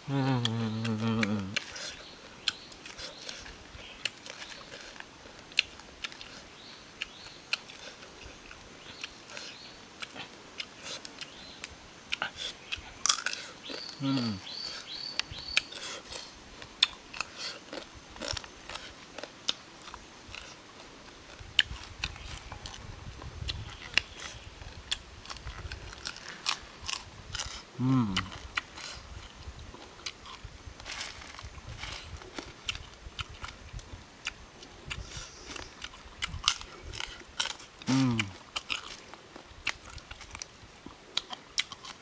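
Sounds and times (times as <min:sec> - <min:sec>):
crunching and chewing food: 0:00.1 - 0:42.0.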